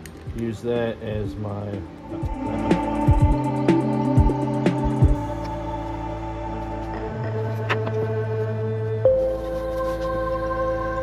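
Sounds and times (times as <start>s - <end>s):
slow ambient chords: 0.0s - 11.0s.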